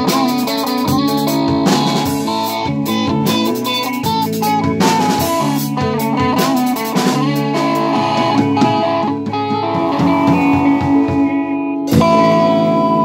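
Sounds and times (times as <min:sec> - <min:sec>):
drum kit hits: 0:00.0 - 0:13.0
electric guitar lead: 0:00.0 - 0:13.0.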